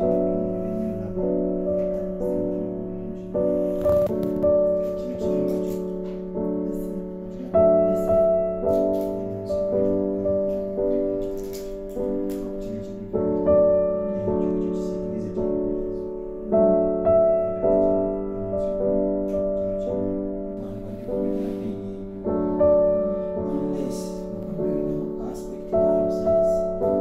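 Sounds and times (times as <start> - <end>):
slow piano chords: 0.0 - 27.0.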